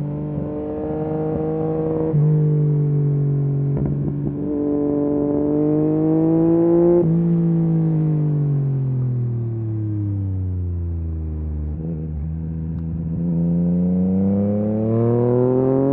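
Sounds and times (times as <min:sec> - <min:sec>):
motorcycle engine revving: 0:00.0 - 0:08.3, 0:11.2 - 0:15.9.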